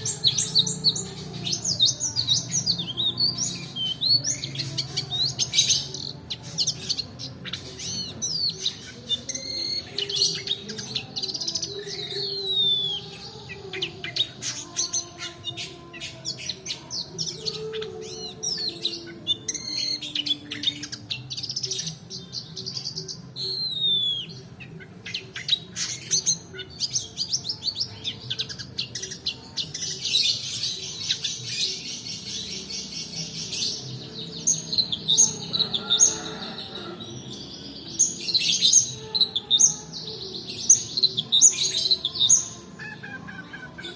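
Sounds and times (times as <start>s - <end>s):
bird singing chattering song: 0.0s - 43.9s.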